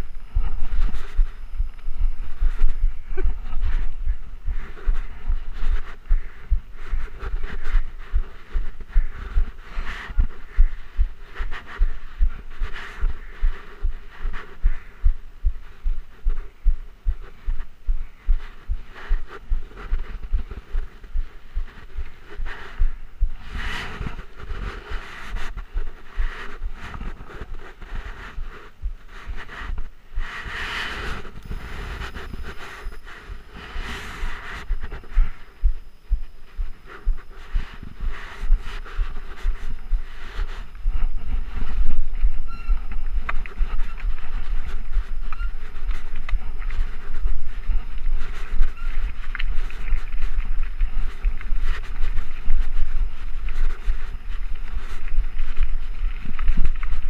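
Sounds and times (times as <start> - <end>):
tyre and wind hiss: 0.0 - 57.0.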